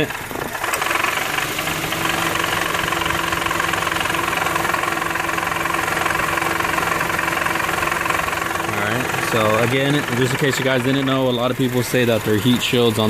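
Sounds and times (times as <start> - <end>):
car engine idling: 0.0 - 13.0
rapid rattle in engine bay: 0.0 - 13.0.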